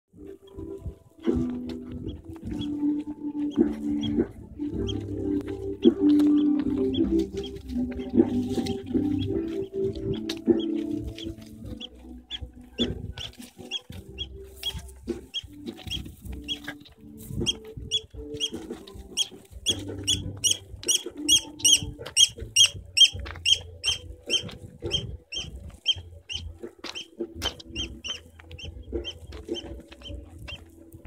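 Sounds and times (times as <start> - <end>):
bird chirping: 2.0 - 30.8.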